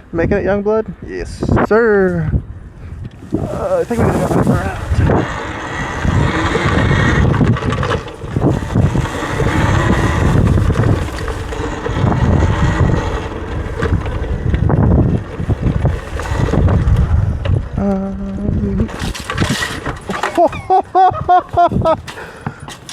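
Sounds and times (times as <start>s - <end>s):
wind buffeting microphone: 0.0s - 22.7s
electric dirt bike rumble: 3.1s - 22.9s.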